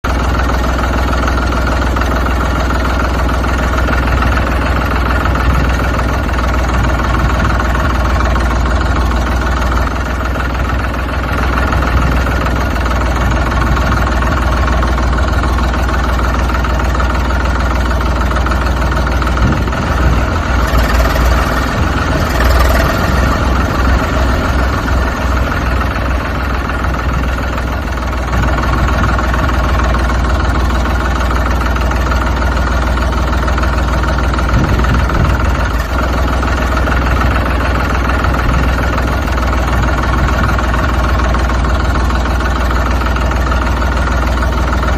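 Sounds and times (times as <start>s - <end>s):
heavy vehicle engine idling: 0.0s - 44.9s.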